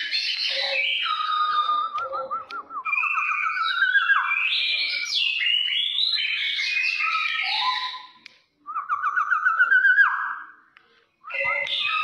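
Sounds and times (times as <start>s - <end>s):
bird singing loud varied song: 0.0s - 10.6s, 11.2s - 12.0s.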